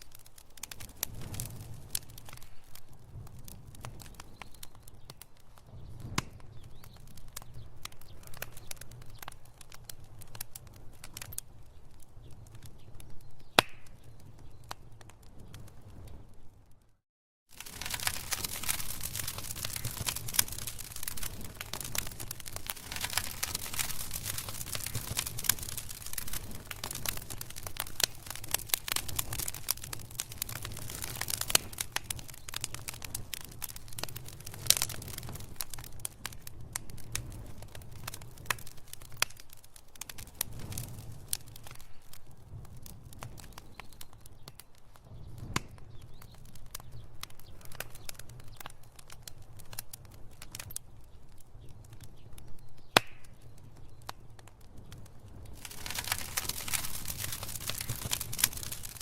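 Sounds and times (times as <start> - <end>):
low rumble of flame: 0.0 - 59.0
wood fire crackling and popping: 0.0 - 59.0.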